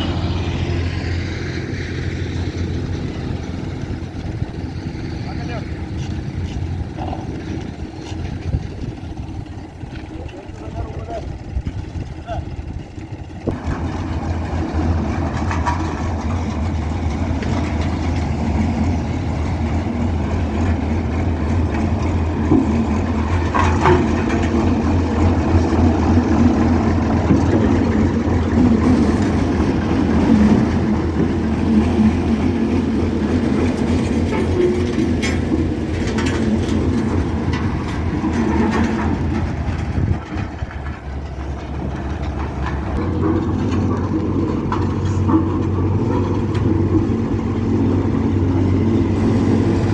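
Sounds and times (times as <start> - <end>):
heavy machinery engine droning: 0.0 - 49.9
rumbling clatter: 0.0 - 49.9.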